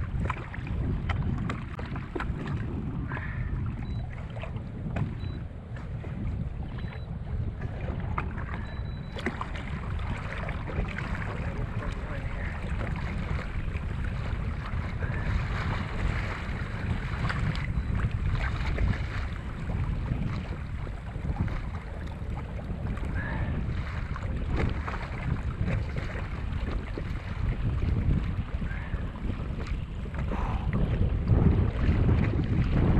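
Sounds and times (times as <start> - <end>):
waves lapping against hull: 0.0 - 32.9
wind buffeting microphone: 0.0 - 32.9.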